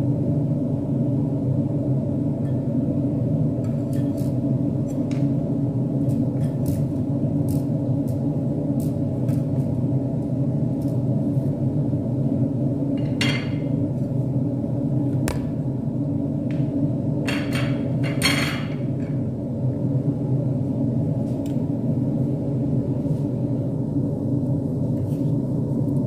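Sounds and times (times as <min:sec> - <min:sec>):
low kitchen rumble: 0:00.0 - 0:26.0.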